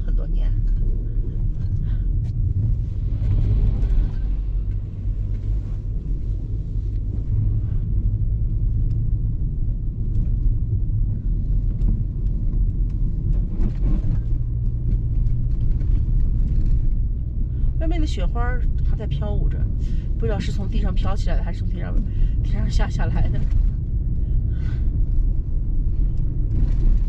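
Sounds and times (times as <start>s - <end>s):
car driving on snowy road: 0.0s - 27.0s.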